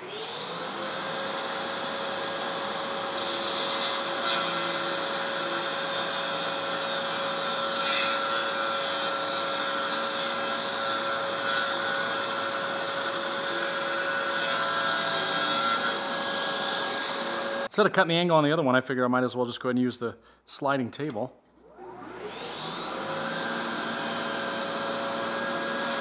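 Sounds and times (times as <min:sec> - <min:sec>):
table saw cutting plywood: 0:00.0 - 0:17.7, 0:21.7 - 0:26.0.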